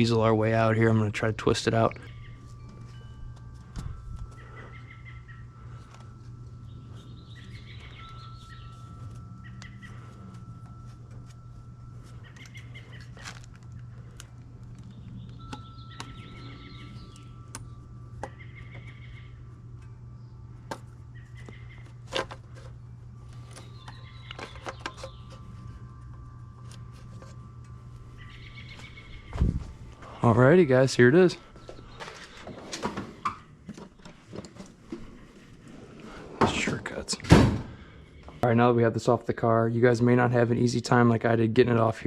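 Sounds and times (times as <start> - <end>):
birds chirping: 0.0 - 42.0
steady low hum: 0.0 - 42.0.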